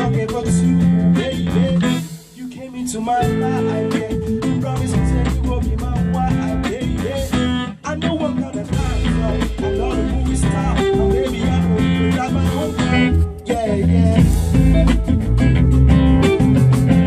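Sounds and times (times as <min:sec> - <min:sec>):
man singing into a microphone: 0:00.0 - 0:14.8
small band playing: 0:00.0 - 0:17.0.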